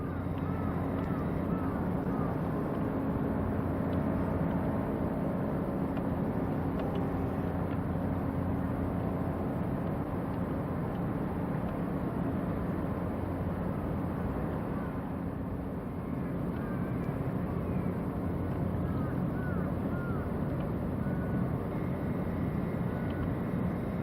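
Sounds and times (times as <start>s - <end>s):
ship diesel engine humming: 0.0s - 24.0s.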